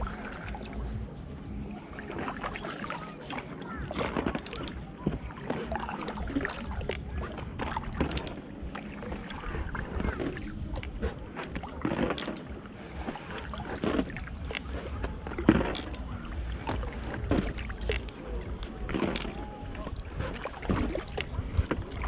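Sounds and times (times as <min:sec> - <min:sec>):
paddle strokes splashing water: 0:00.0 - 0:22.0
steady low rumble: 0:00.0 - 0:22.0.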